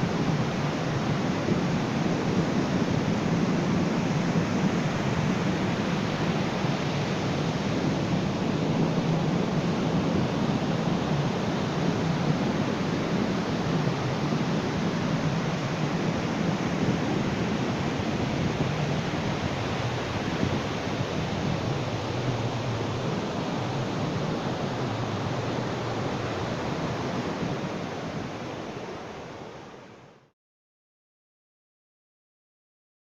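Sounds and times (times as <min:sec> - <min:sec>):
waves washing onto beach: 0:00.0 - 0:30.1.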